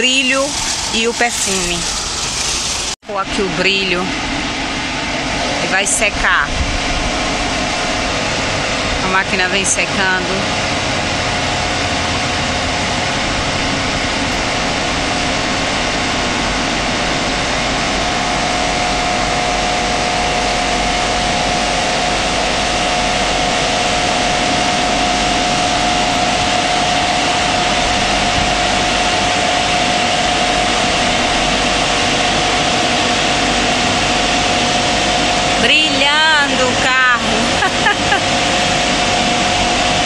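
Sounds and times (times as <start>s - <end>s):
car wash dryer blowers rushing: 0.0s - 40.0s
steady whine: 0.0s - 40.0s.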